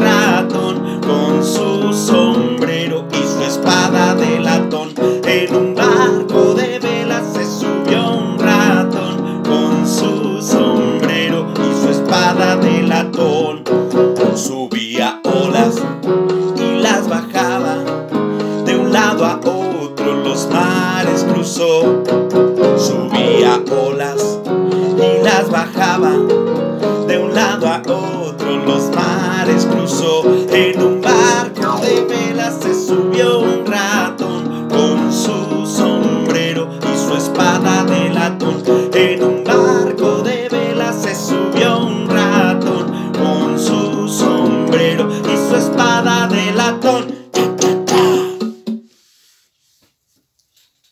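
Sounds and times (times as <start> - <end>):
electronic keyboard: 0.0 - 48.8
man singing: 0.0 - 48.8.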